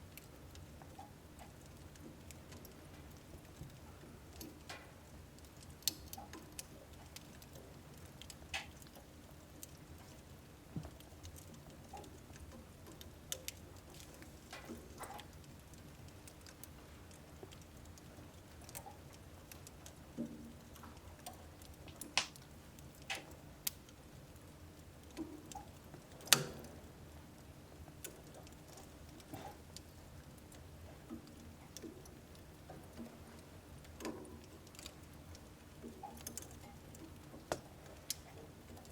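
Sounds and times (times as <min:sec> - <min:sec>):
soft low fire hiss: 0:00.0 - 0:38.9
wood fire crackling and popping: 0:00.0 - 0:38.9.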